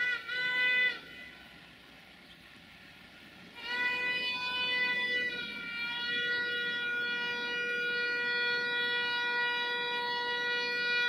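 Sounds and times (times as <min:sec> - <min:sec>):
locomotive horn blast: 0:00.0 - 0:01.9, 0:03.5 - 0:11.0.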